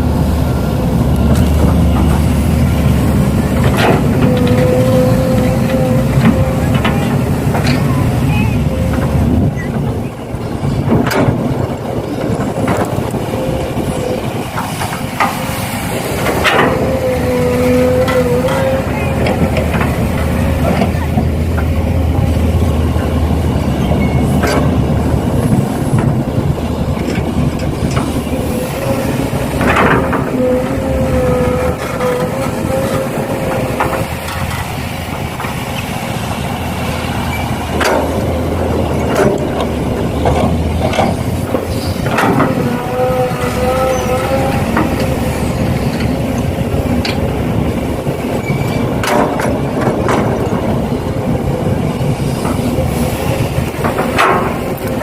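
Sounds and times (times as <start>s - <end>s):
electric motors whining: 0.0s - 55.0s
knocks and clicks: 1.0s - 55.0s.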